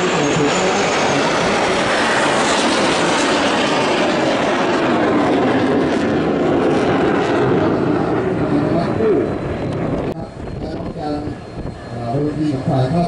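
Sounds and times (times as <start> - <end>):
jet engines flying overhead: 0.0 - 13.0.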